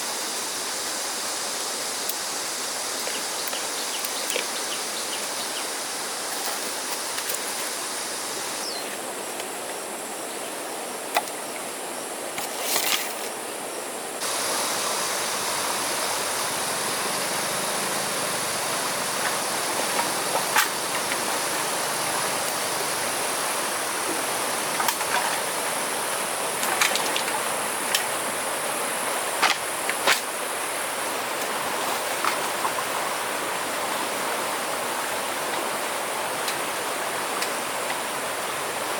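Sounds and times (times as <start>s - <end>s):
flowing river water: 0.0s - 12.6s, 13.3s - 38.9s.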